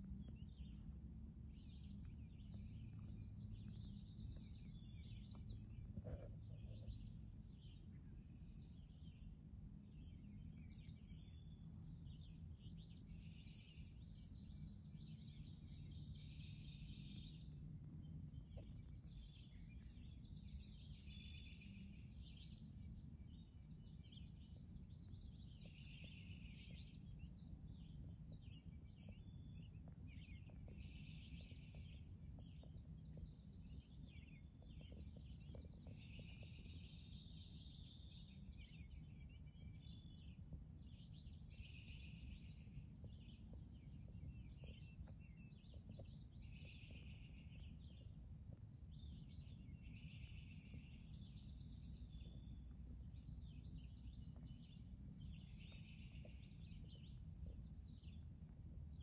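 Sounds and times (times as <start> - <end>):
steady low rumble: 0.0 - 13.4, 14.4 - 59.0
songbirds singing and chirping: 0.0 - 59.0.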